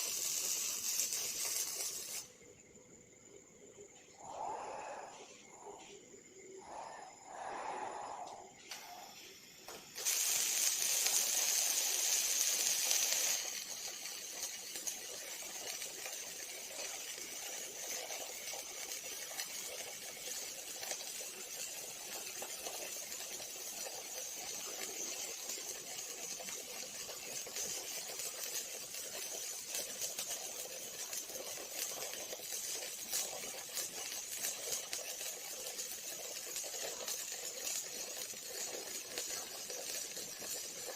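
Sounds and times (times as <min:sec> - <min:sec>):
welding arc hissing and crackling: 0:00.0 - 0:02.4, 0:06.6 - 0:40.9.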